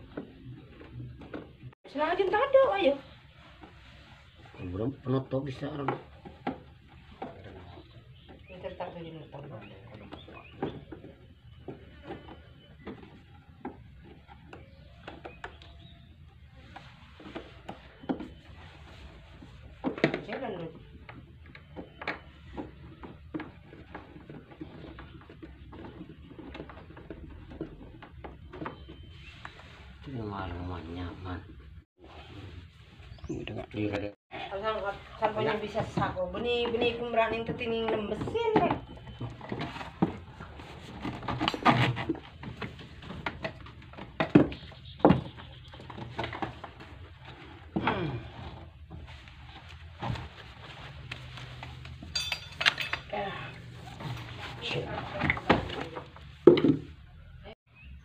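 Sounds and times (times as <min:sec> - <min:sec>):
plastic parts knocking and scraping: 0:05.4 - 0:30.0, 0:35.2 - 0:57.2.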